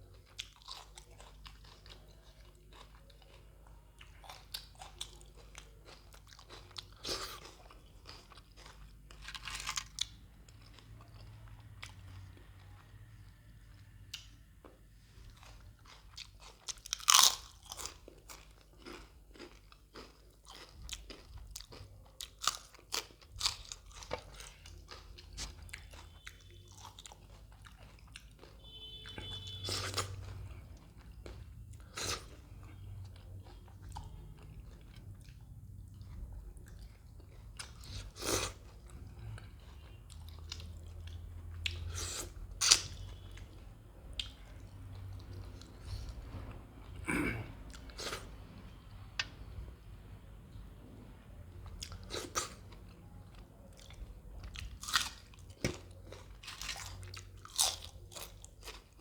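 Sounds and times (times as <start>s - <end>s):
crunchy chewing: 0.0s - 12.9s, 13.6s - 48.4s, 51.6s - 59.0s.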